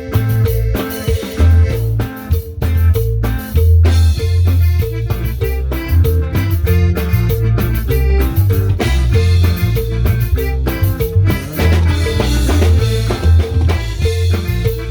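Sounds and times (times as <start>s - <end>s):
prominent bass line: 0.0s - 14.9s
upbeat band jam: 0.0s - 14.9s.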